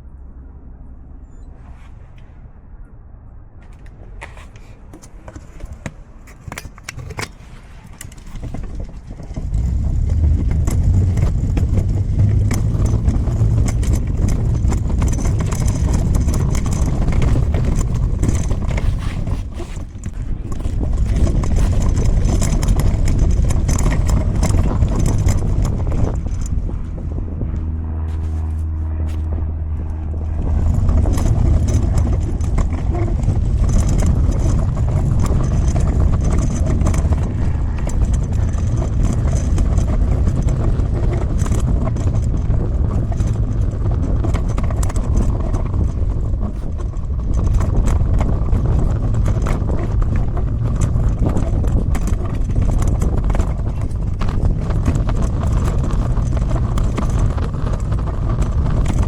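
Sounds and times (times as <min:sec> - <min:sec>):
wagon wheels rolling and rattling: 0:03.7 - 0:59.0.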